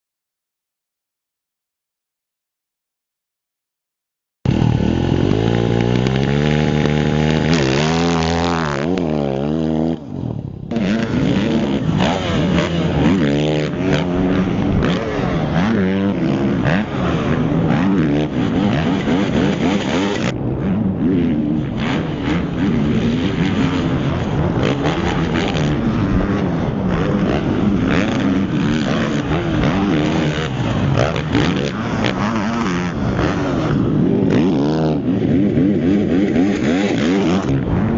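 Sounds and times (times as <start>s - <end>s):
motorcycle engine revving: 4.5s - 37.9s.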